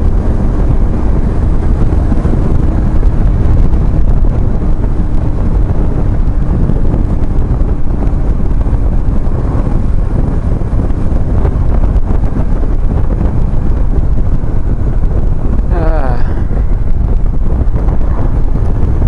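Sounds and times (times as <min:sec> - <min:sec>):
motorcycle engine running: 0:00.0 - 0:19.0
wind rush on microphone: 0:00.0 - 0:19.0.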